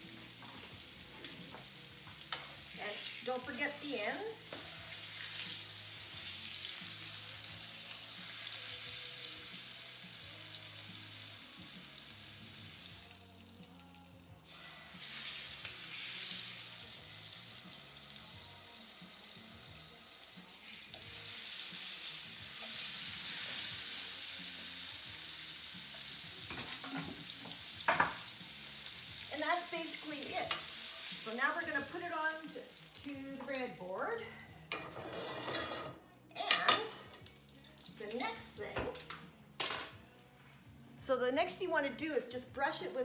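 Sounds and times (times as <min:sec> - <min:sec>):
meat sizzling in a frying pan: 0:00.0 - 0:35.5.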